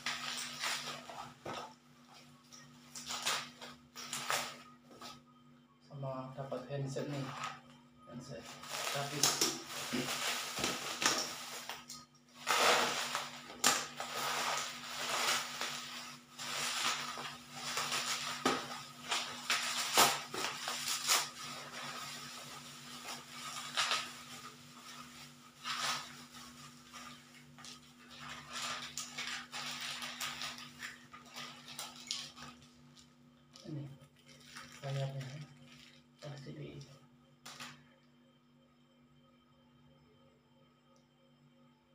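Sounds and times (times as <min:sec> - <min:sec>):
plastic packaging crinkling: 0:00.0 - 0:04.8, 0:08.3 - 0:37.8
faint low hum: 0:00.0 - 0:41.9.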